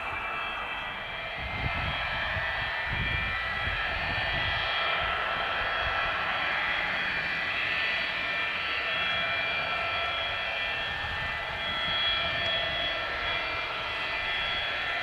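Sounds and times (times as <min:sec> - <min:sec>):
jet engines whining at idle: 0:00.0 - 0:15.0.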